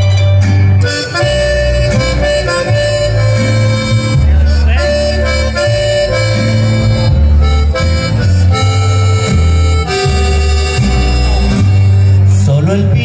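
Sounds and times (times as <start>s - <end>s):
accordion melody: 0.0s - 13.0s
bass line: 0.0s - 13.0s.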